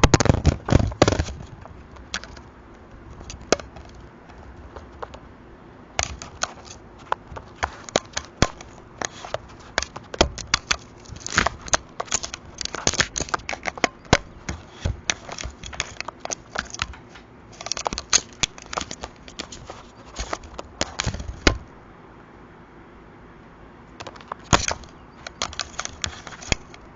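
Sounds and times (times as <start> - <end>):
crow pecking at camera: 0.0 - 5.3, 6.0 - 21.8, 24.0 - 26.9.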